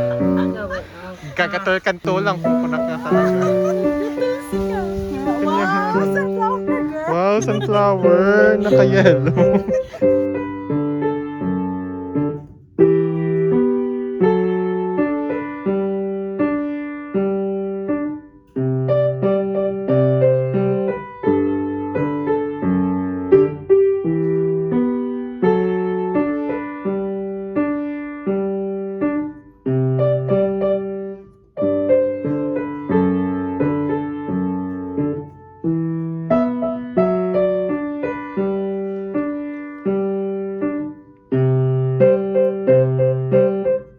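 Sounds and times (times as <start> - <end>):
gentle piano music: 0.0 - 43.9.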